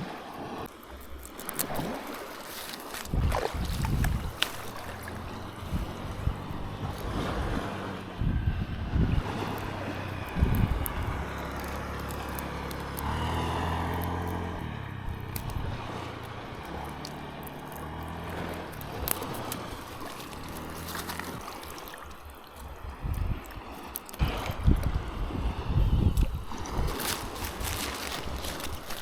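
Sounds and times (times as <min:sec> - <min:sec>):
water sloshing against hull: 0:00.0 - 0:29.0
boat motor running: 0:00.3 - 0:29.0.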